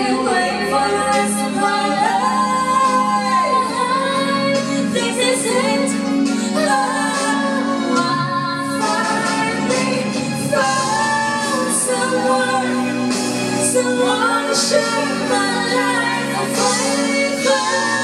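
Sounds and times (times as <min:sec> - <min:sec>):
woman singing with accompaniment: 0:00.0 - 0:18.0.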